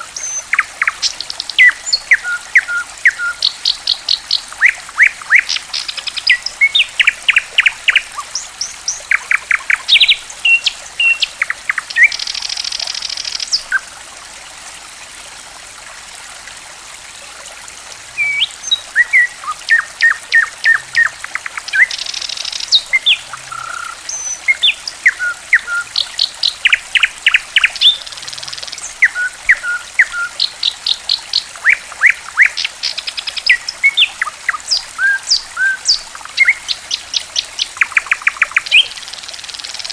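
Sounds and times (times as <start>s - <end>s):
songbird singing: 0.0s - 13.8s, 18.1s - 39.9s
trickling water: 0.0s - 39.9s.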